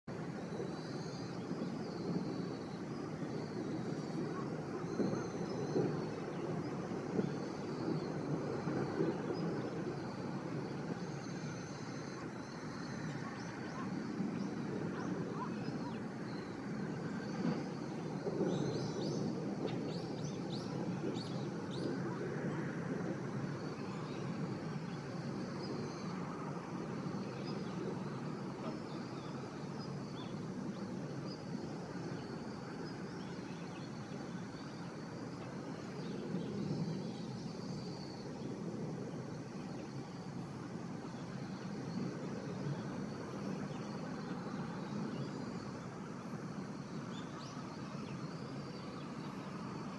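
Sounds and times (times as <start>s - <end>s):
distant engine drone: 0.1s - 49.9s.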